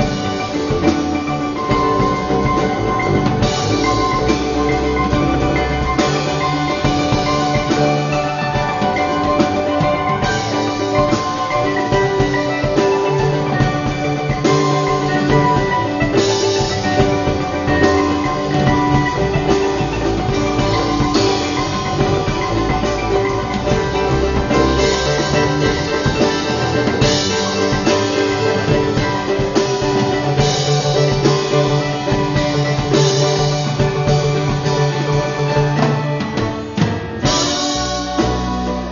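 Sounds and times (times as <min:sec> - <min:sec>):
drum beat: 0:00.0 - 0:38.9
live band playing instrumental: 0:00.0 - 0:38.9.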